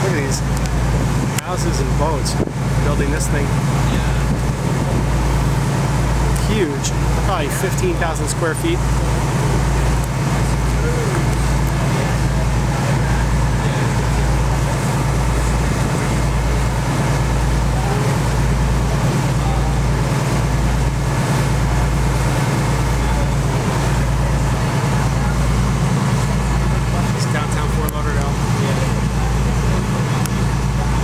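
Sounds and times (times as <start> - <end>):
boat engine droning: 0.0 - 31.0
water and air noise: 0.0 - 31.0.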